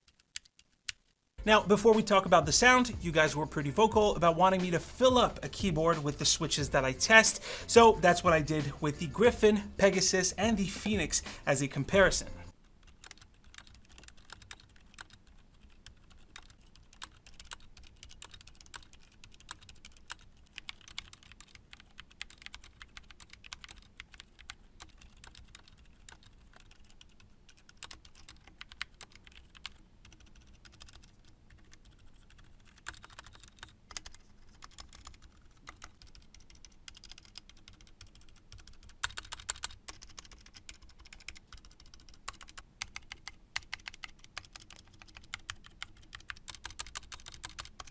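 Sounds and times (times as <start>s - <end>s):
soft muted keyboard typing: 0.0s - 7.3s, 7.9s - 47.9s.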